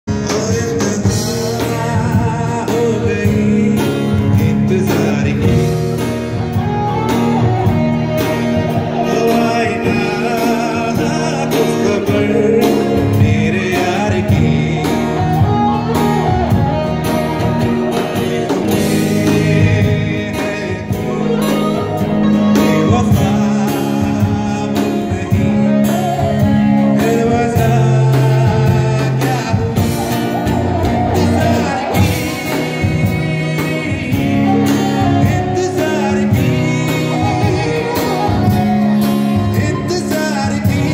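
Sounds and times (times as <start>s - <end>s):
man singing: 0.0s - 40.9s
hand drum percussion: 0.1s - 40.9s
strummed acoustic guitar: 0.1s - 40.9s.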